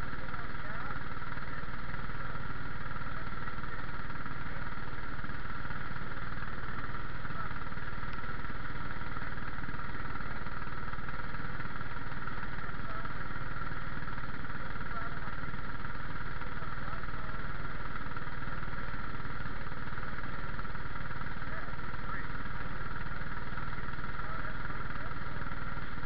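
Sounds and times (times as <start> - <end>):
racing car engine idling: 0.0 - 26.0.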